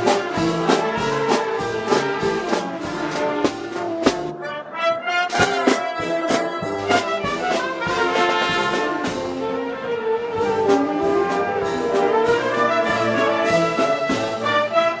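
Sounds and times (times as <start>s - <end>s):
percussion hits: 0.0s - 4.5s, 5.3s - 9.7s, 10.6s - 14.9s
brass band playing: 0.0s - 15.0s.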